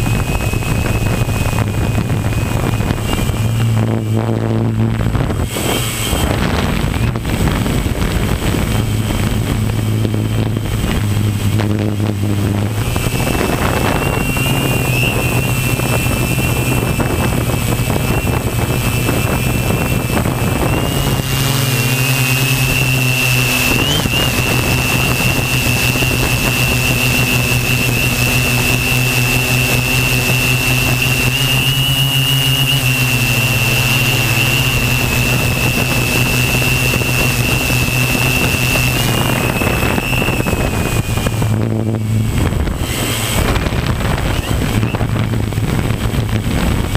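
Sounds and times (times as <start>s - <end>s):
drone motors humming: 0.0s - 46.9s
thin high motor whine: 0.0s - 46.9s.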